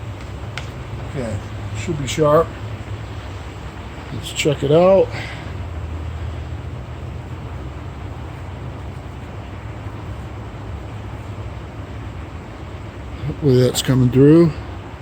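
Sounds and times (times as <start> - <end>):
background hiss: 0.0 - 15.0
steady low hum: 0.0 - 15.0.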